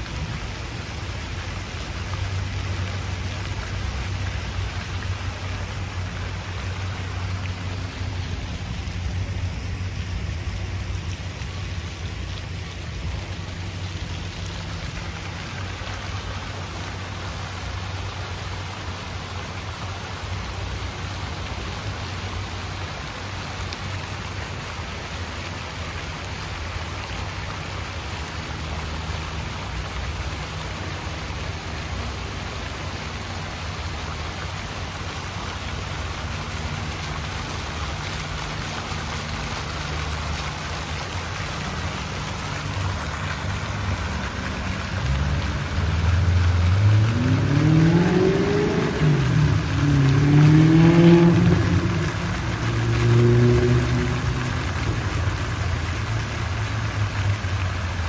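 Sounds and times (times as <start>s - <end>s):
fountains splashing into pool: 0.0s - 58.0s.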